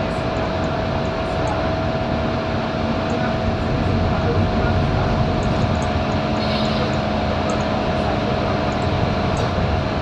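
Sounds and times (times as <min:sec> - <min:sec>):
bus engine droning: 0:00.0 - 0:10.0
road noise rumble: 0:00.0 - 0:10.0.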